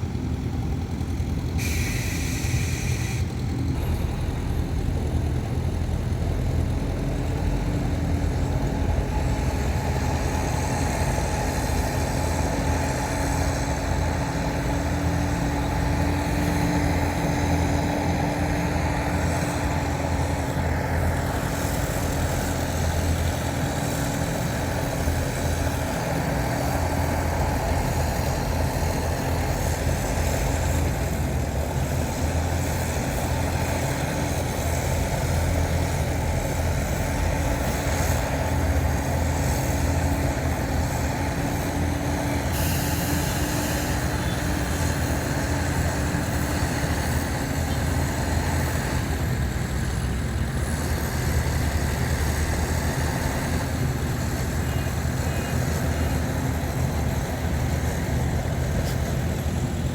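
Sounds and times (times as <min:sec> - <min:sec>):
constant droning tone: 0:00.0 - 0:59.9
heavy diesel machinery running: 0:00.0 - 0:59.9.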